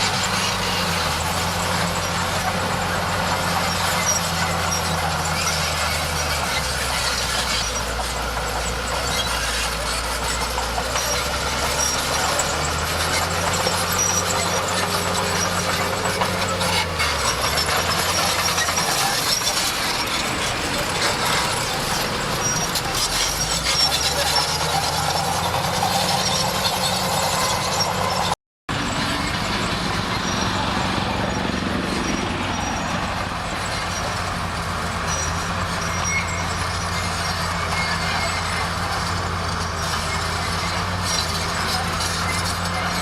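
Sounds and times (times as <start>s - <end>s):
bulldozer diesel engine under load: 0.0s - 43.0s
steel tracks clattering and squealing: 0.0s - 43.0s.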